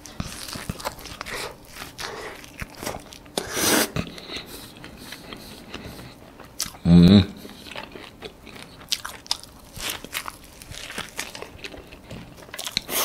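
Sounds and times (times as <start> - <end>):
wet chewing with crunches: 0.0 - 6.8, 7.4 - 13.0.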